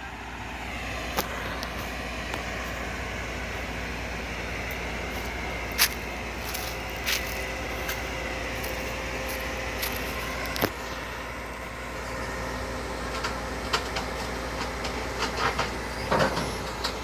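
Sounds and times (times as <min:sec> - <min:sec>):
thin steady whine: 0:00.0 - 0:16.9
diesel engine running: 0:00.0 - 0:17.0.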